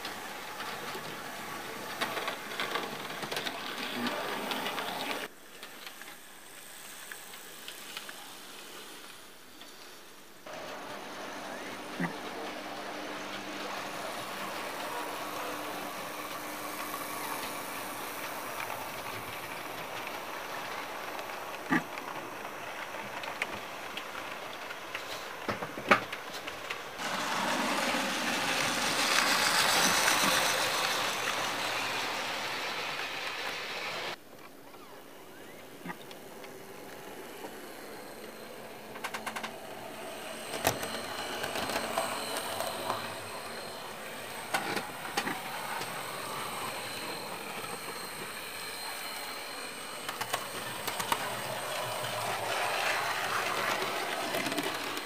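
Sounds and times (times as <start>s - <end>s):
model train wheels and motor whirring: 0.0s - 55.0s.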